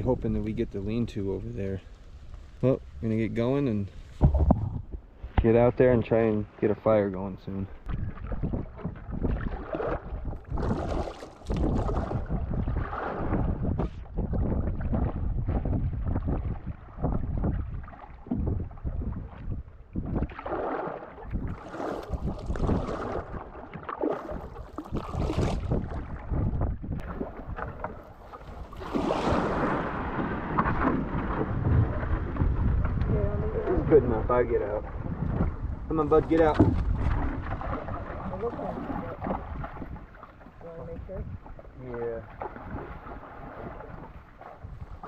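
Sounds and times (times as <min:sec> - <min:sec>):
wind buffeting microphone: 0:00.0 - 0:45.0
paddle strokes in water: 0:07.7 - 0:45.0.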